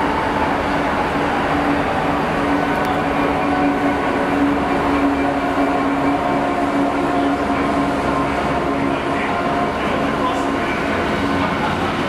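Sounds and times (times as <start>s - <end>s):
diesel locomotive engine: 0.0s - 12.0s
train wheels rumbling on rails: 0.0s - 12.0s.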